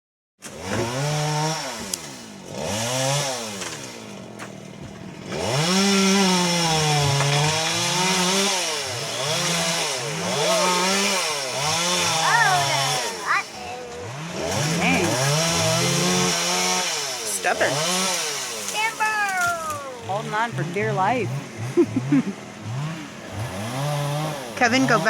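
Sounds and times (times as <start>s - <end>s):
chainsaw engine revving: 0.4s - 25.0s.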